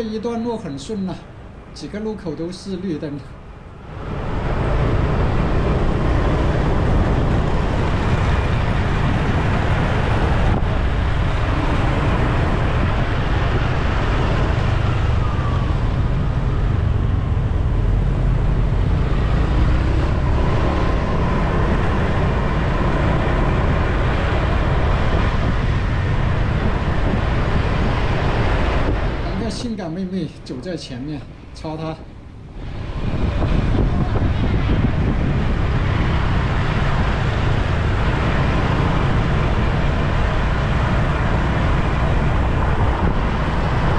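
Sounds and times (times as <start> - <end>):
road and traffic rumble: 0.0 - 43.9
wind rushing over microphone: 0.0 - 43.9.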